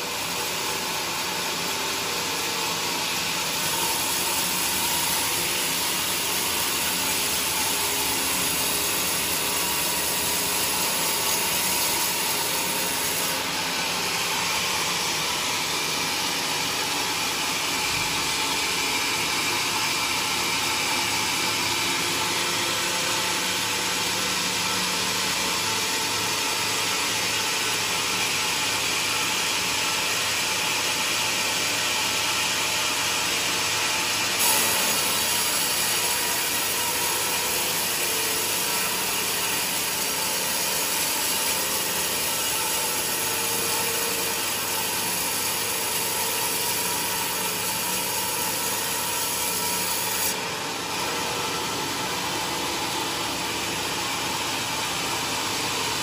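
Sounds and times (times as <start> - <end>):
band sawmill cutting log: 0.0 - 56.0.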